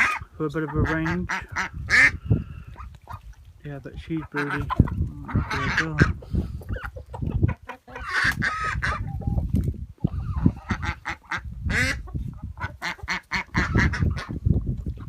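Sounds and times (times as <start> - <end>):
ducks calling: 0.0 - 14.4
chickens calling: 0.0 - 15.0.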